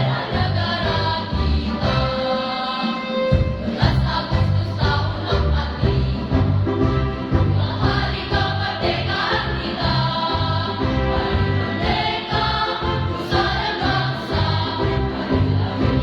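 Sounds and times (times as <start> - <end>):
youth choir singing: 0.0 - 6.5, 7.4 - 16.0.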